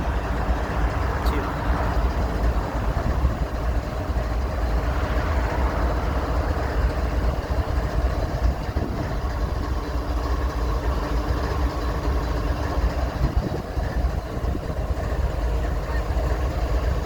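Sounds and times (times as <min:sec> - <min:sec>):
diesel locomotives idling: 0:00.0 - 0:17.0.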